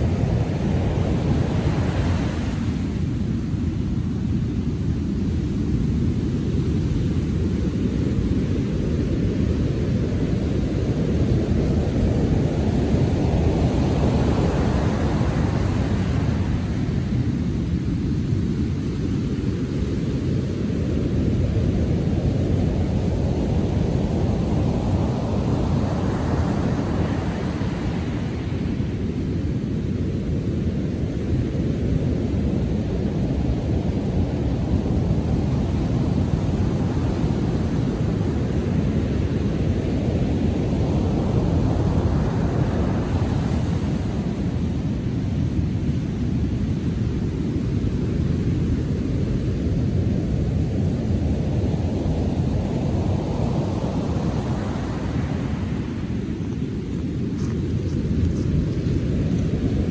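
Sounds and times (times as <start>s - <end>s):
heavy waves rumbling: 0.0s - 59.9s.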